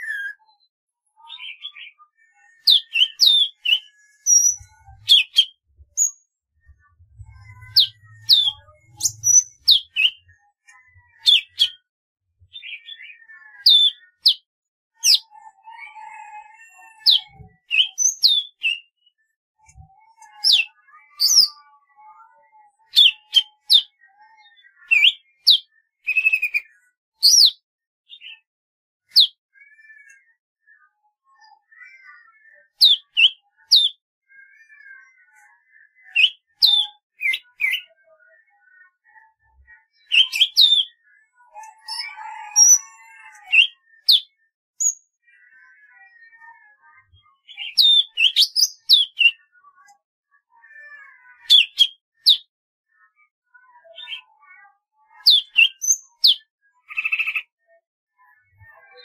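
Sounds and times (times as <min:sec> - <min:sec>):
bird singing: 0:00.0 - 0:28.5, 0:29.1 - 0:34.0, 0:34.6 - 0:52.5, 0:53.9 - 0:54.4, 0:55.2 - 0:57.6.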